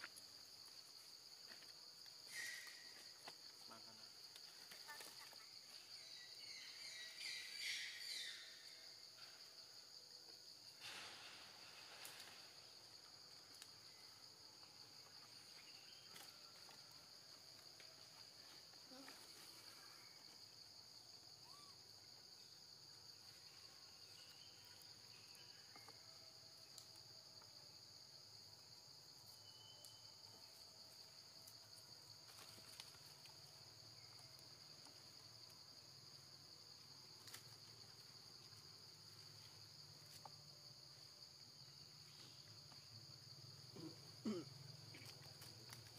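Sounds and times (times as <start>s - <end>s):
insect chorus drone: 0.0s - 45.9s.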